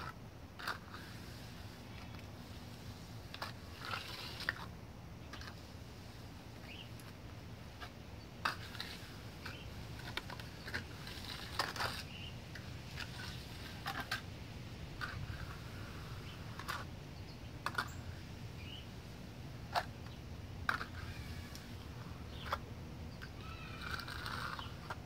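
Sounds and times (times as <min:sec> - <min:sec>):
trowel scraping wet cement: 0:00.0 - 0:04.7, 0:05.3 - 0:14.3, 0:15.0 - 0:16.9, 0:19.7 - 0:22.6, 0:23.2 - 0:25.0.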